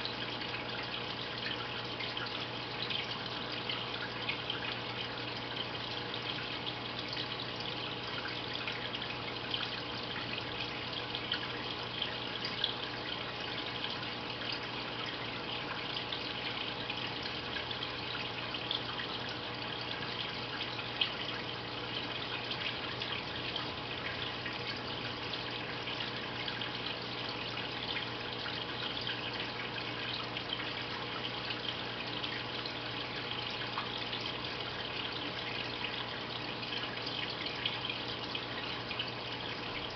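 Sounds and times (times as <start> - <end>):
filter pump hum: 0.0 - 39.9
water splashing and trickling: 0.0 - 39.9.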